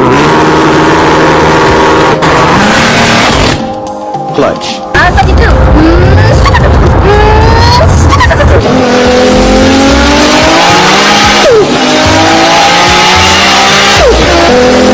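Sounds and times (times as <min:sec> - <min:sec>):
car engine accelerating: 0:00.0 - 0:03.8, 0:05.3 - 0:14.9.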